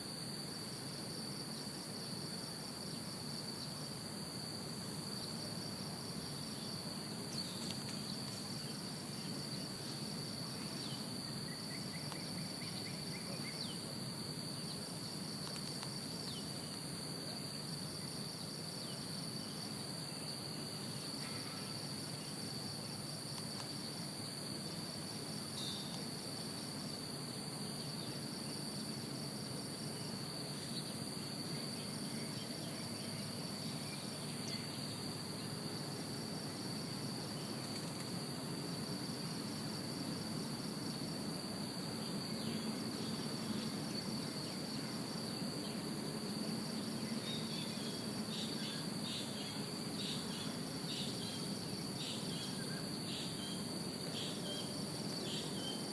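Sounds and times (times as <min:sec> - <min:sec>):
insect chorus drone: 0:00.0 - 0:55.9.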